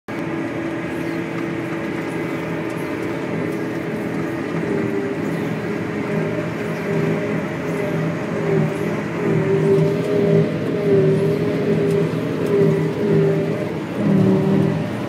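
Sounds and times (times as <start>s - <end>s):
harvester engine and machinery drone: 0.1s - 15.0s.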